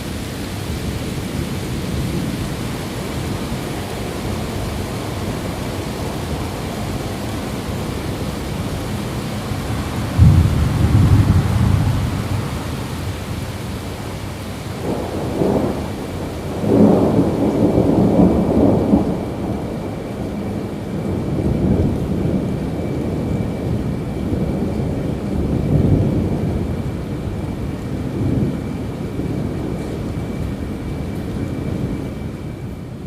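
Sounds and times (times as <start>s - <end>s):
steady rain: 0.0s - 33.0s
thunder rolling: 0.0s - 33.0s.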